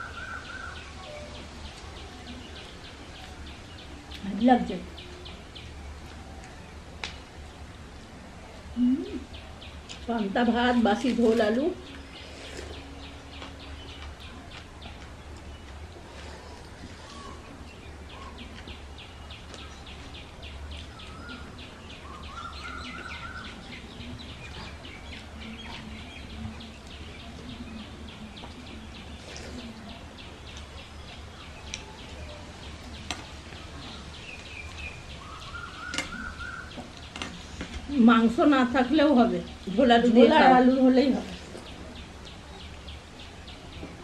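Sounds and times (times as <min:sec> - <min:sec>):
bird chirping: 0:00.0 - 0:07.6, 0:11.6 - 0:39.8
low steady hum: 0:00.0 - 0:44.0.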